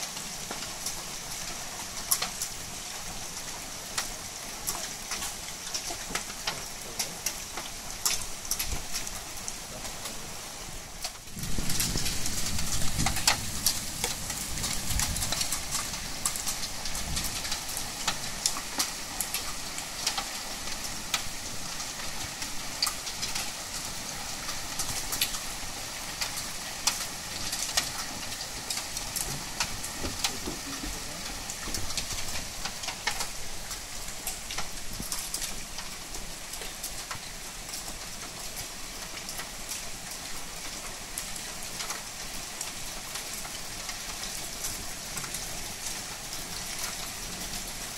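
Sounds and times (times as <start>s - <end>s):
heavy rain hissing: 0.0s - 47.9s
raindrops pattering close by: 0.0s - 47.9s.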